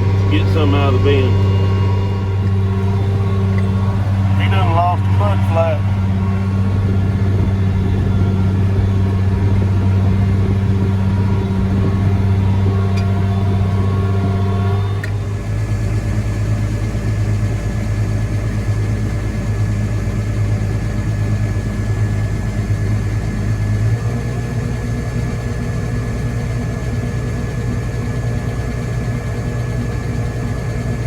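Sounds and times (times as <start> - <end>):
vehicle engine humming: 0.0 - 31.0.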